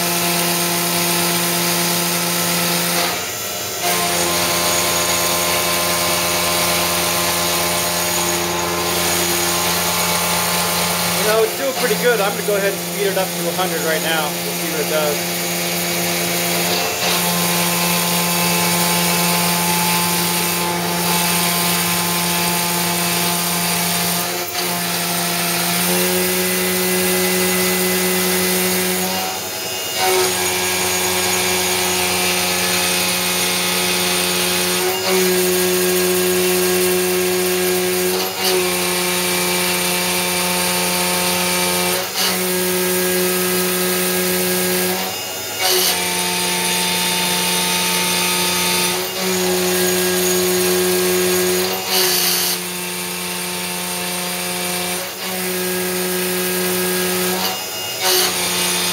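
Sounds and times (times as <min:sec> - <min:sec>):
milling machine cutting whine: 0:00.0 - 0:58.9.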